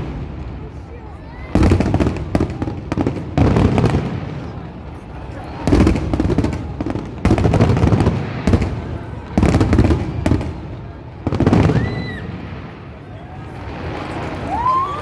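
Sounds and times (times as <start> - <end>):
fireworks booming: 0.0 - 14.8
fireworks crackling: 0.0 - 15.0.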